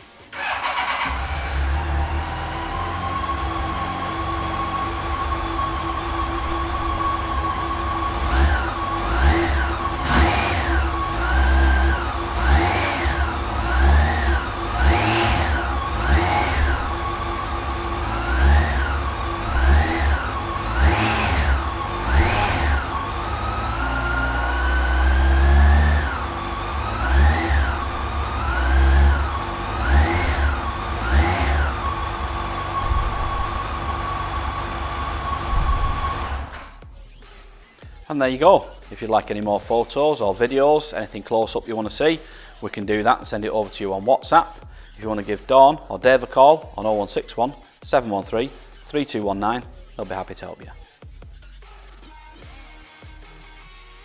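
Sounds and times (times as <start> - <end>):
motorcycle engine idling and revving: 0.0 - 52.6.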